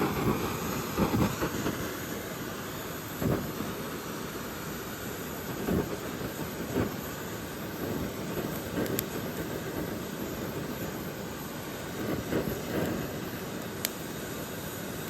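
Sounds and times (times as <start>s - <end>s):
rain: 0.0s - 15.0s.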